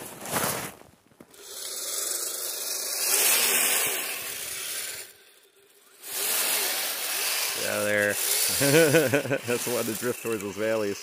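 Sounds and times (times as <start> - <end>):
electric motor whining and rattling: 1.2 - 11.0.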